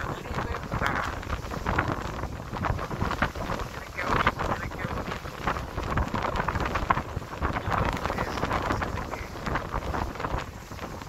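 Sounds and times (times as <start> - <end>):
low rumble: 0.0 - 11.0
wind buffeting microphone: 0.0 - 11.0.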